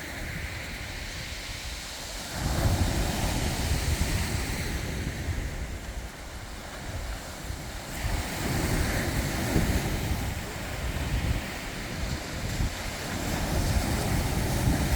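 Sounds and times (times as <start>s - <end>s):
waves washing in: 0.0s - 14.9s
wind rumbling on microphone: 0.0s - 14.9s.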